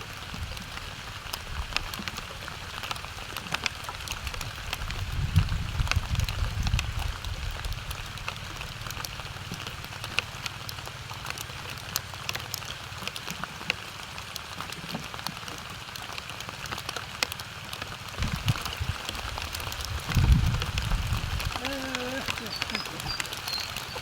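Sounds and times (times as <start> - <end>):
rain falling steadily: 0.0 - 24.0
raindrops tapping sharply: 0.1 - 24.0.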